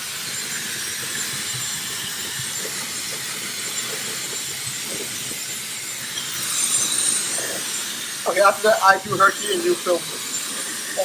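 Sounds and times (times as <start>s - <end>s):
hair dryer running: 0.0s - 11.0s.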